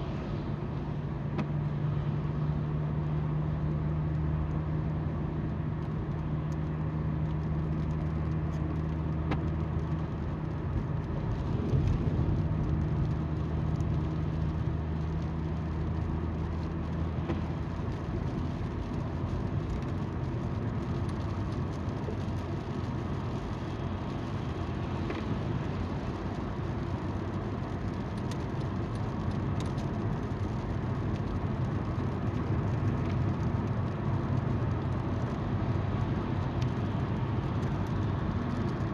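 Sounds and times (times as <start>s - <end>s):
car engine hum: 0.0s - 38.9s
tyre noise on road: 0.0s - 38.9s.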